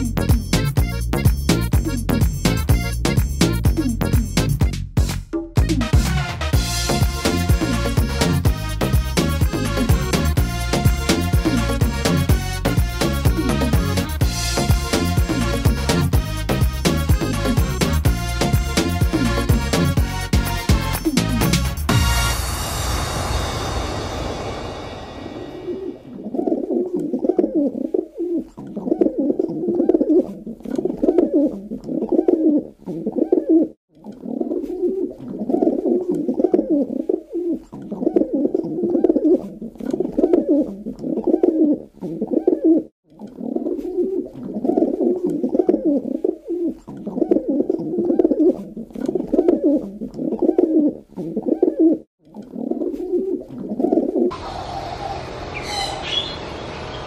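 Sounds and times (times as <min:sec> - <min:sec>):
pigeon cooing: 0:00.0 - 0:04.5, 0:07.0 - 0:20.0, 0:25.6 - 0:56.4.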